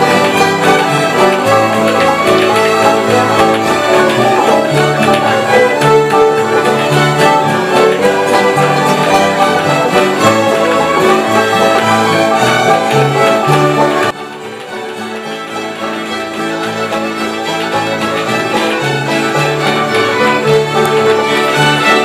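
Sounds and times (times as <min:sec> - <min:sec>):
acoustic string band playing: 0:00.0 - 0:22.0
fiddle melody: 0:00.0 - 0:22.0.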